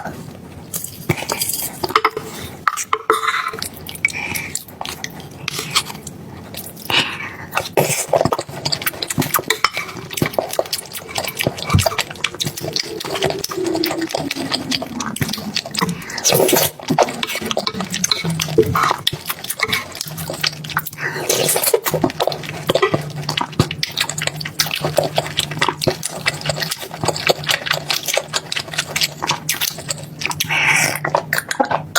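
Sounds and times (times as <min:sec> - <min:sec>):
steady low hum: 0:00.0 - 0:27.4
wet chewing and slurping: 0:00.5 - 0:31.9.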